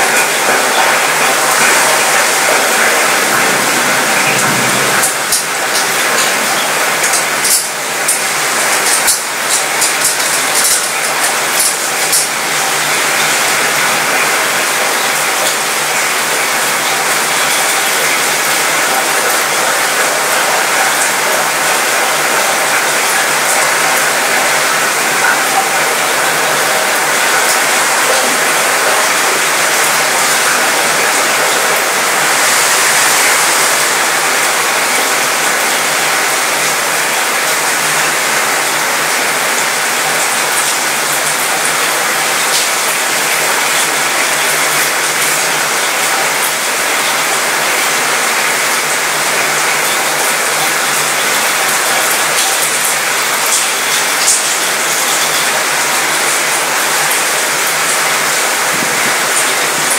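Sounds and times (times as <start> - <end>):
rain on metal balcony: 0.0 - 59.9.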